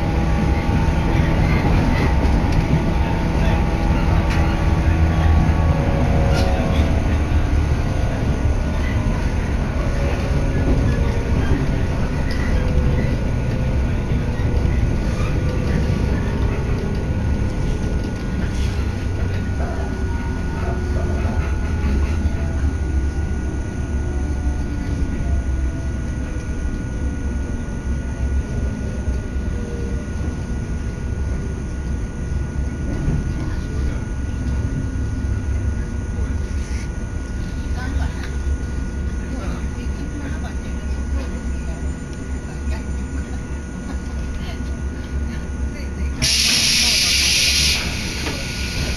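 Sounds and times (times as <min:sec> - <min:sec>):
train wheels rumbling on rails: 0:00.0 - 0:48.9.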